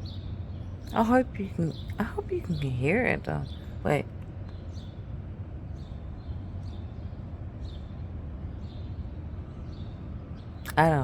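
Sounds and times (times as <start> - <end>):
small songbirds chirping: 0.0 - 11.0
steady low rumble: 0.0 - 11.0.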